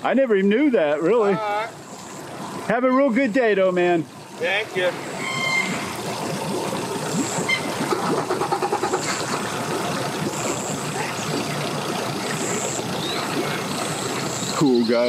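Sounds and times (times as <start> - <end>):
outboard motor running: 0.0 - 15.0
propeller churning water: 0.0 - 15.0.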